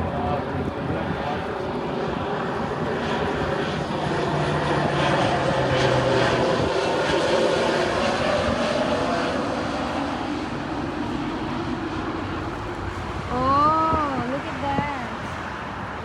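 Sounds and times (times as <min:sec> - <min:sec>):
propeller airplane engine droning: 0:00.0 - 0:16.0.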